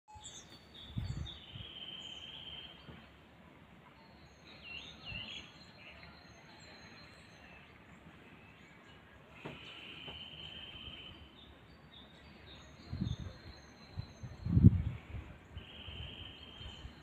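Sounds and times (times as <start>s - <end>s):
low background noise: 0.1s - 17.0s
small birds singing and calling: 0.1s - 17.0s.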